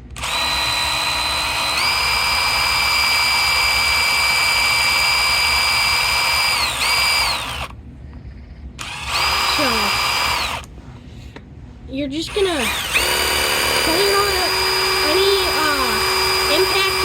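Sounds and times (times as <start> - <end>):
electric drill whining: 0.0 - 7.7, 8.8 - 10.7, 12.3 - 17.0.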